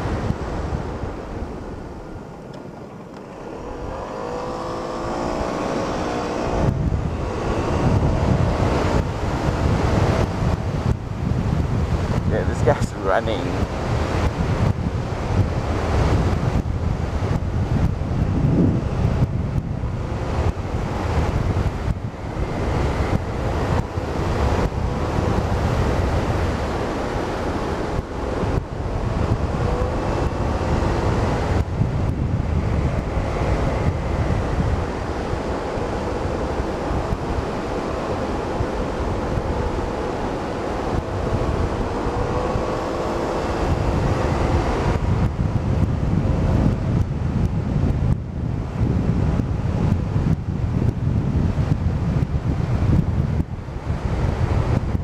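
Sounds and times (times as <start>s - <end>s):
scooter engine hum: 0.0s - 55.0s
wind buffeting microphone: 0.0s - 55.0s.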